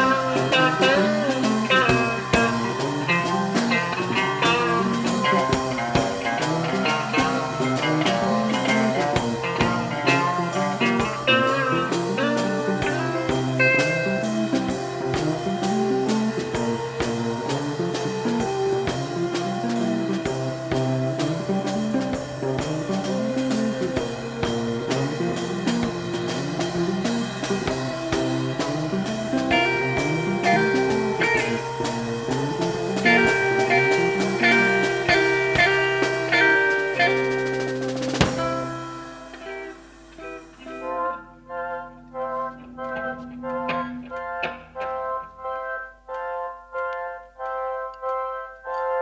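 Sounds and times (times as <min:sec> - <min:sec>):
music with steady drum beat: 0:00.0 - 0:41.2
rock band with electric guitar: 0:00.0 - 0:46.3.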